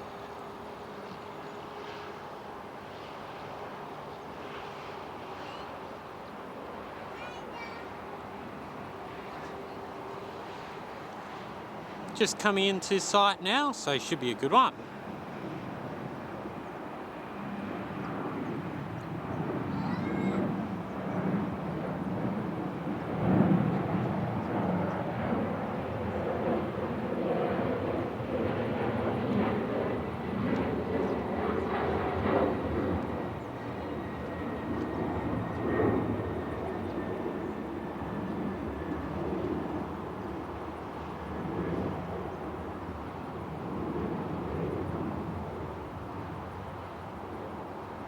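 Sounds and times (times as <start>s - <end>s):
jet airliner engines rumbling: 0.0s - 48.0s.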